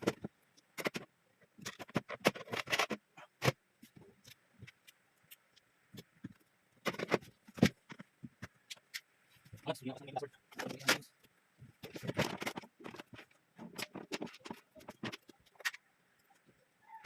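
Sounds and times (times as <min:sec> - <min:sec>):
sharp clicks knocks and scrapes: 0:00.0 - 0:09.7, 0:10.5 - 0:16.6.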